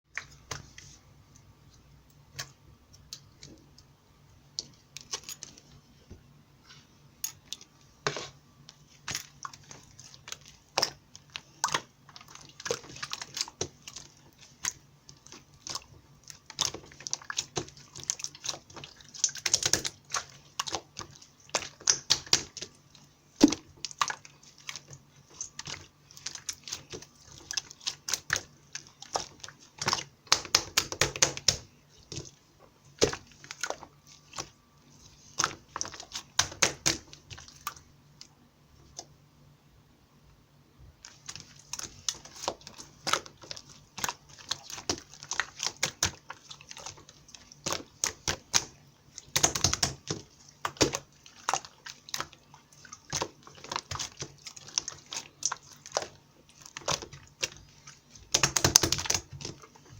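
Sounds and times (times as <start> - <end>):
faint steady hum: 0.1 - 59.9.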